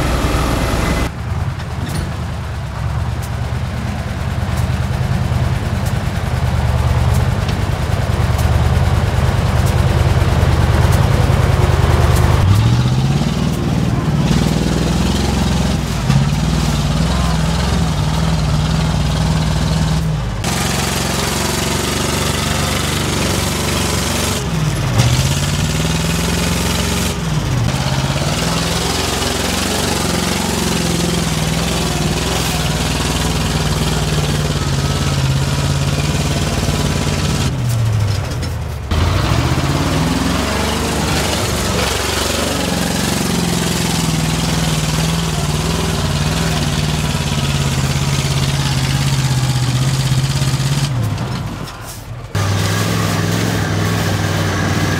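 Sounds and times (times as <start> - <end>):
diesel engine working under load: 0.0 - 54.9.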